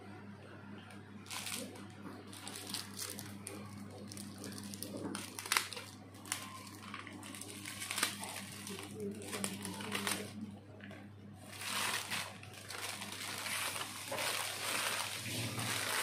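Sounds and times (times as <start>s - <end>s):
plastic bag crinkling: 1.2s - 16.0s.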